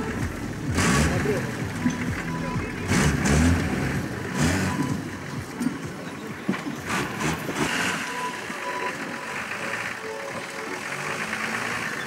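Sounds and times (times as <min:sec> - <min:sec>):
voices in background: 0:00.0 - 0:11.7
truck engine revving: 0:00.0 - 0:12.0.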